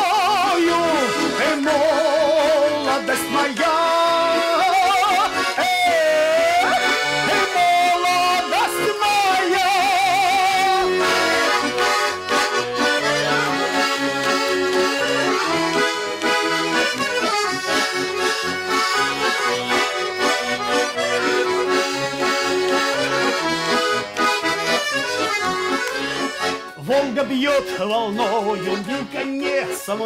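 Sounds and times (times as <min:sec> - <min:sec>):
button accordion playing: 0:00.0 - 0:30.0.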